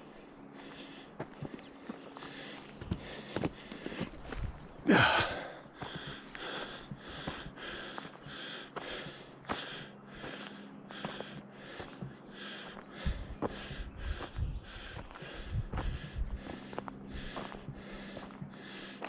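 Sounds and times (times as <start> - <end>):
person breathing: 0.0 - 19.0
footsteps on gravel: 1.2 - 19.0.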